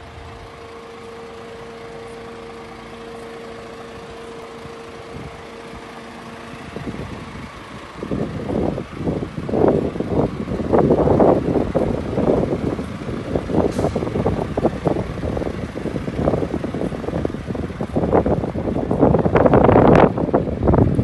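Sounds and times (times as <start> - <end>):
truck engine idling: 0.0 - 21.0
wind buffeting microphone: 3.9 - 21.0.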